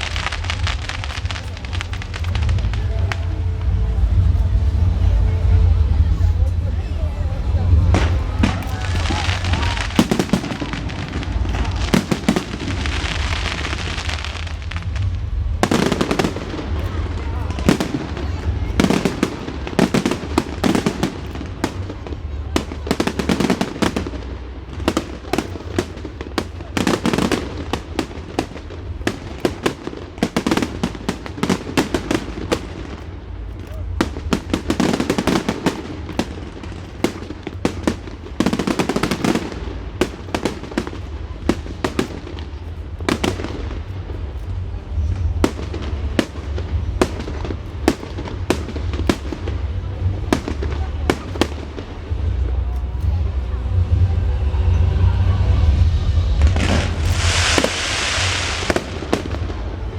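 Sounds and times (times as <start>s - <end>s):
fireworks bangs and crackling: 0.0s - 59.9s
steady low rumble: 0.0s - 59.9s.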